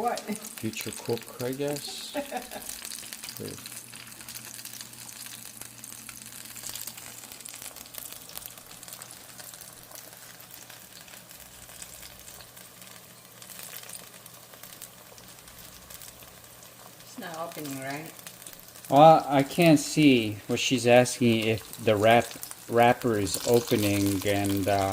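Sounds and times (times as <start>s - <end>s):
deep-frying sizzle and crackle: 0.0s - 24.9s.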